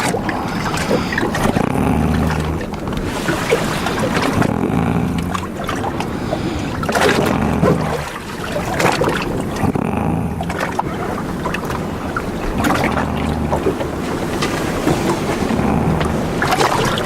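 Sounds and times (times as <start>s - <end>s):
boat engine hum: 0.0s - 17.0s
water rushing and splashing: 0.0s - 17.0s.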